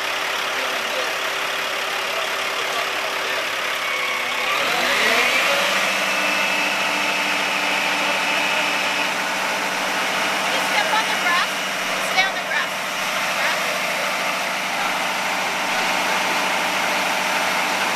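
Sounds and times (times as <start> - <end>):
diesel engine idling and revving: 0.0 - 17.9.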